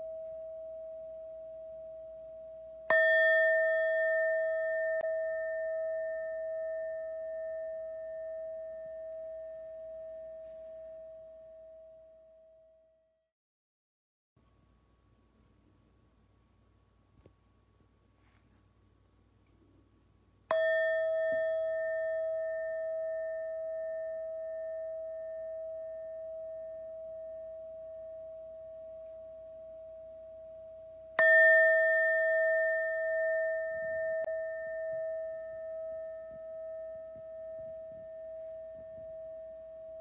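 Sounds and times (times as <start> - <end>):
singing bowl ringing: 0.0 - 12.7, 20.5 - 40.0.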